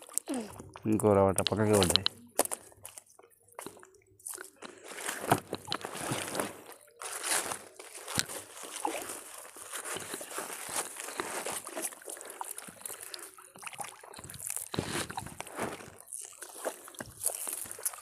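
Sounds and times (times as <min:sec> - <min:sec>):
water sloshing and trickling: 0:00.0 - 0:18.0.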